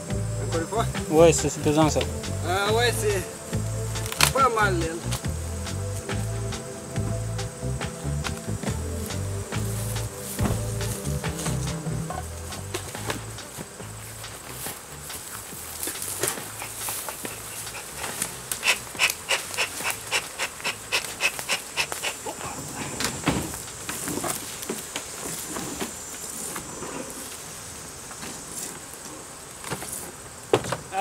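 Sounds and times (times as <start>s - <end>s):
honeybees buzzing: 0.0s - 30.9s.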